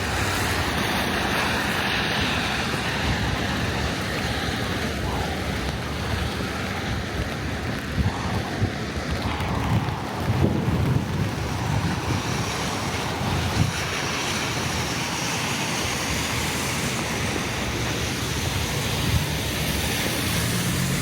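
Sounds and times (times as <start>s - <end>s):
steady rushing noise: 0.0s - 21.0s
wind buffeting microphone: 0.0s - 21.0s.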